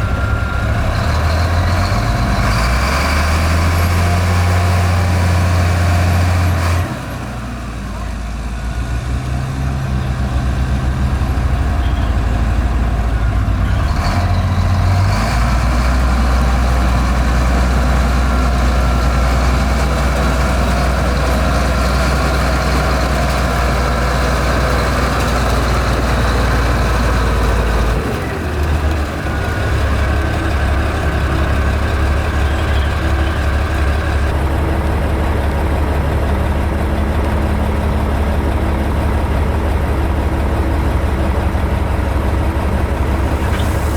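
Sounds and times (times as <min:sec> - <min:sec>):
heavy diesel machinery engine: 0:00.0 - 0:43.9.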